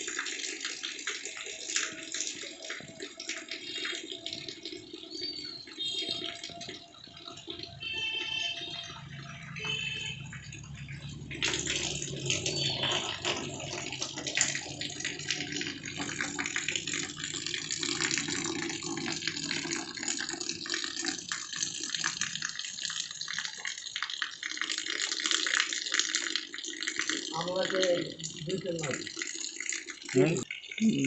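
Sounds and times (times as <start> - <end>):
water pouring onto metal sheet: 0.0 - 31.0.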